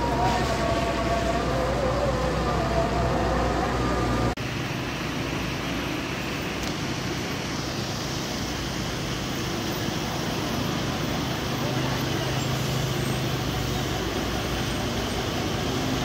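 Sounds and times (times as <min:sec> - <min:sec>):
traffic hiss on wet street: 0:00.0 - 0:16.0
vehicle engine rumbling: 0:00.0 - 0:16.0.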